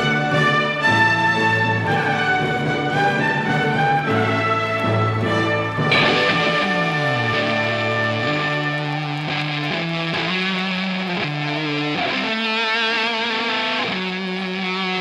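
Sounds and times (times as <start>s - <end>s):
electric guitar chords: 2.4s - 15.0s.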